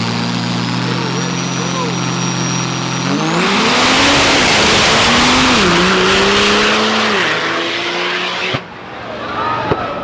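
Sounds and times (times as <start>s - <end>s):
drag truck accelerating hard: 0.0s - 8.9s
turbo and exhaust rush: 0.0s - 9.1s.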